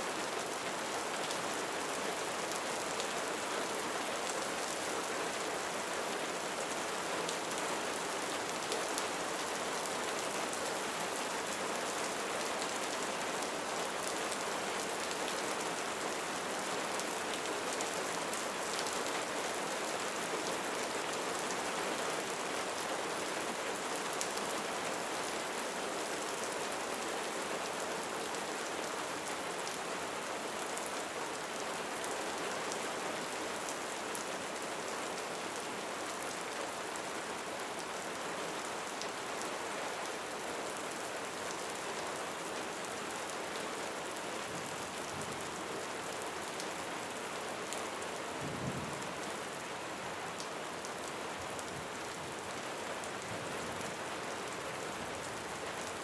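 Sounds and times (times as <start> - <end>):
rain drumming on a roof: 0.1 - 56.0.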